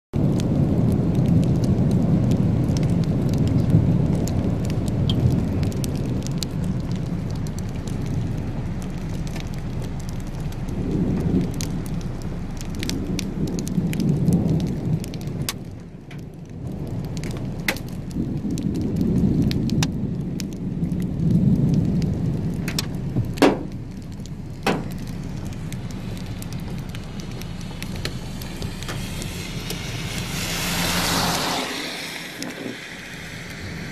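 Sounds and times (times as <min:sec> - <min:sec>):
raindrops ticking on glass: 0:00.2 - 0:31.3
rain falling on a car: 0:00.2 - 0:33.9
thunder rumbling: 0:00.2 - 0:33.9.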